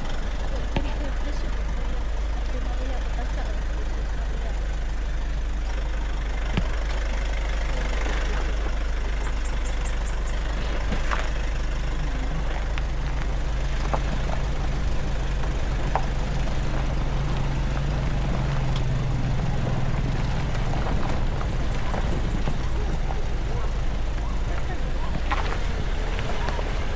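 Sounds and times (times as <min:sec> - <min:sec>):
pickup engine running: 0:00.0 - 0:26.9.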